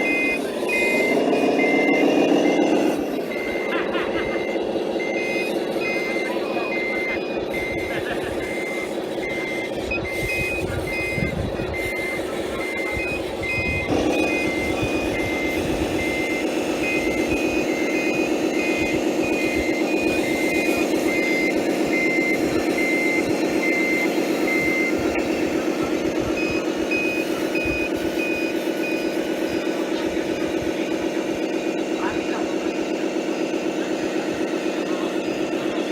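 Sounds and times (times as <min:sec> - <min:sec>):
high-pitched reversing beeper: 0:00.0 - 0:35.9
low-pitched reversing beeper: 0:00.0 - 0:35.9
motor drone: 0:00.0 - 0:35.9.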